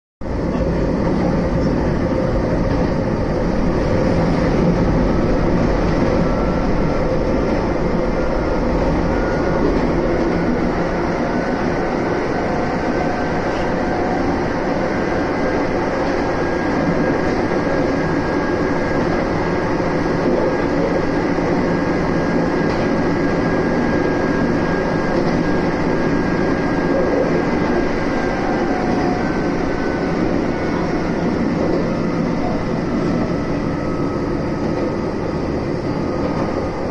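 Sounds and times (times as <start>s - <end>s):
wheels rumbling on rail: 0.2s - 36.9s.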